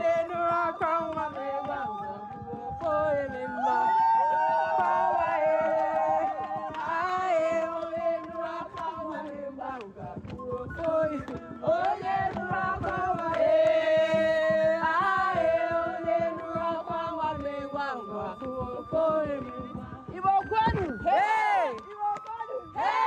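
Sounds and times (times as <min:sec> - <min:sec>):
voices singing a chant: 0:00.0 - 0:23.0.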